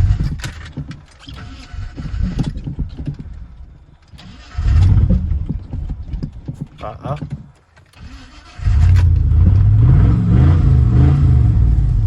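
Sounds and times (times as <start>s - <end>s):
engine cranking and sputtering: 0.0s - 12.0s.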